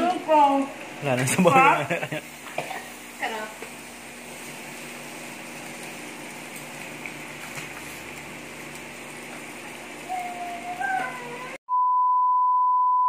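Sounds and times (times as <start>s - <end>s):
broth simmering: 0.0s - 11.6s
electric grill hissing: 0.0s - 11.6s
meat sizzling: 0.0s - 11.6s.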